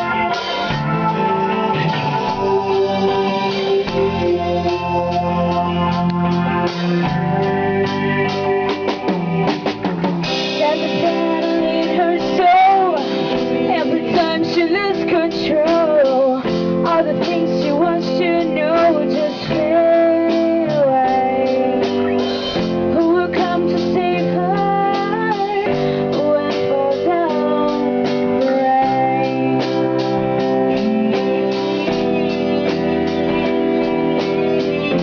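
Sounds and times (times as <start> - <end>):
band playing: 0.0 - 35.0
gliding lead melody: 0.0 - 35.0
steady drum beat: 0.0 - 35.0.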